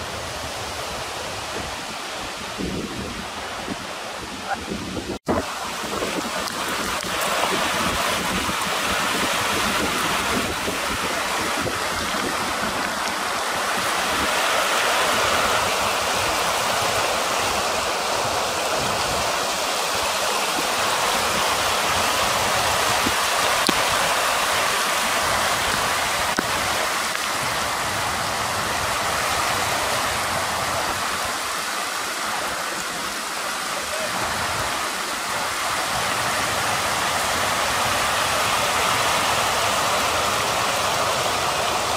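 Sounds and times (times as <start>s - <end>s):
flood water rushing: 0.0s - 41.9s.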